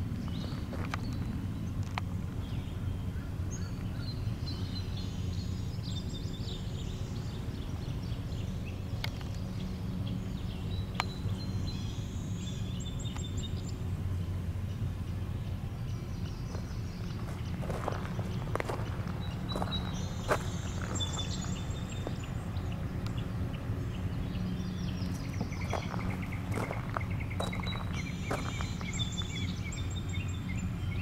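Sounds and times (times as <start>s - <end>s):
songbirds chirping and singing: 0.0s - 31.0s.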